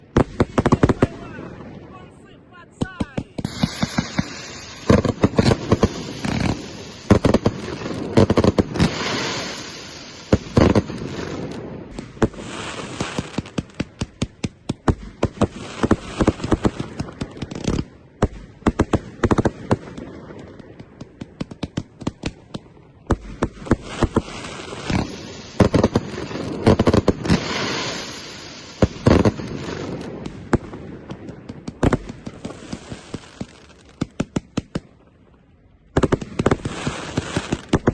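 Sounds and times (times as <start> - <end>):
fireworks banging and crackling: 0.0 - 37.9.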